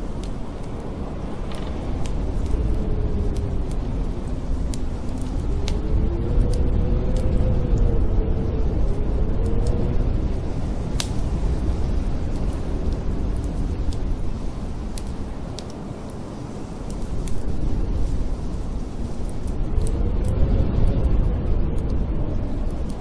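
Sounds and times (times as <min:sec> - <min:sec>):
wind howling: 0:00.0 - 0:23.0
wood fire crackling: 0:00.0 - 0:23.0.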